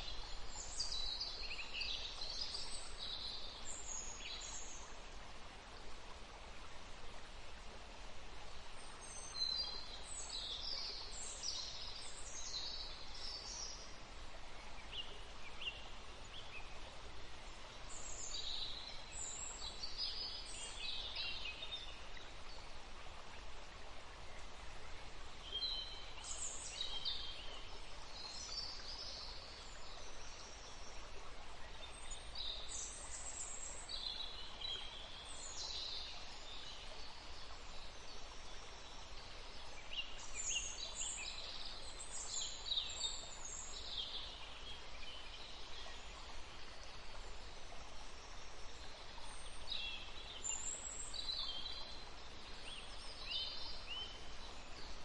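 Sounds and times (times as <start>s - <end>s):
background hiss: 0.0s - 55.0s
songbirds chirping: 0.0s - 55.0s.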